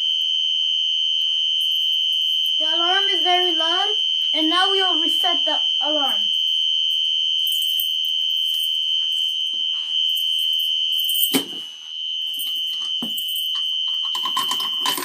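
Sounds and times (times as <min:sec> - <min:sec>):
fire alarm tone: 0:00.0 - 0:15.0.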